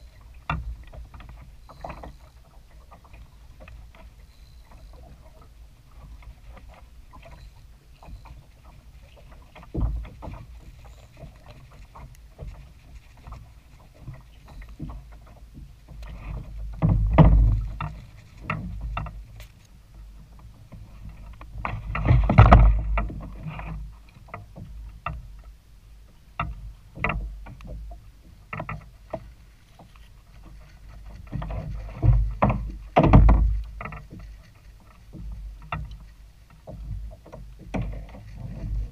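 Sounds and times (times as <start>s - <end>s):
water sloshing against hull: 0.0s - 38.9s
splashes and knocks: 5.0s - 19.6s, 20.2s - 25.4s, 26.4s - 38.9s.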